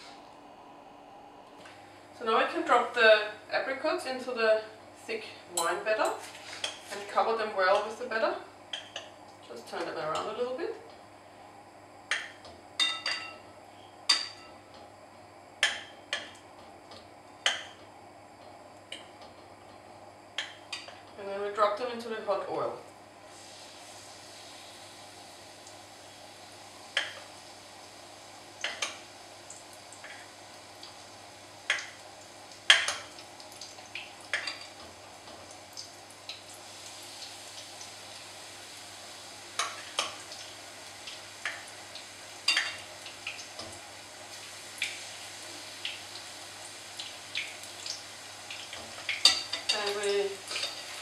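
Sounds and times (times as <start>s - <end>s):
batter sizzling in hot oil: 5.6s - 51.0s.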